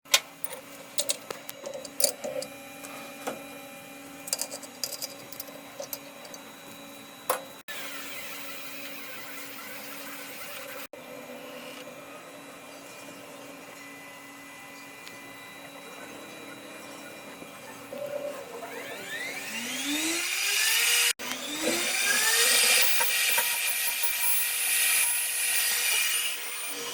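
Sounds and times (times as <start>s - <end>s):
grinding machine humming: 0.4s - 23.8s.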